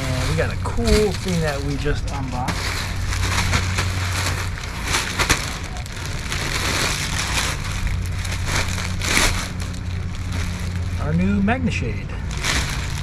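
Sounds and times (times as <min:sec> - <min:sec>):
rustling and crinkling: 0:00.0 - 0:11.5, 0:12.1 - 0:13.0
steady low hum: 0:00.0 - 0:13.0.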